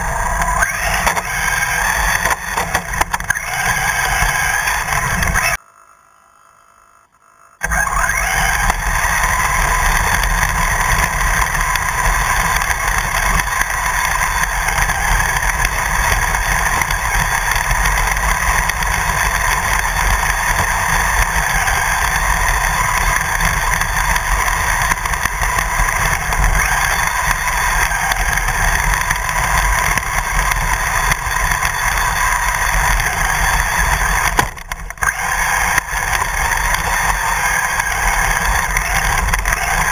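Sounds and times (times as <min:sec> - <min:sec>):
wheels rumbling on grass: 0:00.0 - 0:05.6, 0:07.6 - 0:39.9
toy car motor whine: 0:00.0 - 0:39.9.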